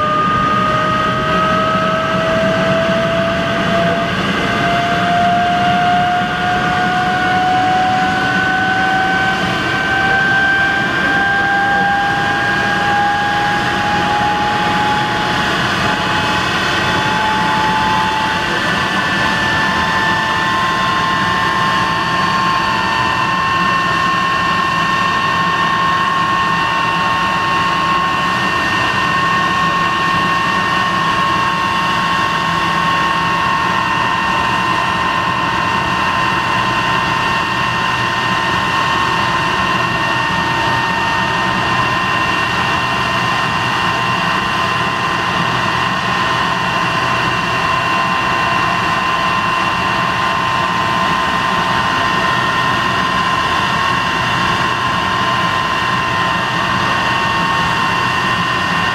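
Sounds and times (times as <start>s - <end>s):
jet engine rush and whine: 0.0s - 58.9s.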